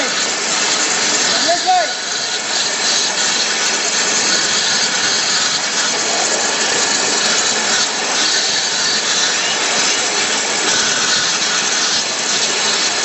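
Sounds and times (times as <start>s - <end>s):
waterjet cutting glass hiss: 0.0s - 13.0s.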